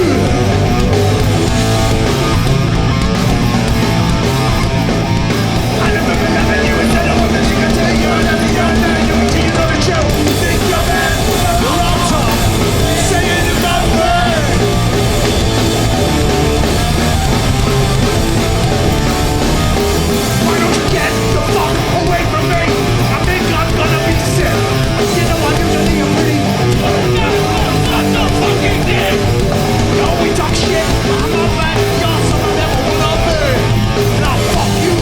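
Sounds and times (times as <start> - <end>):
punk band playing live: 0.0 - 35.0.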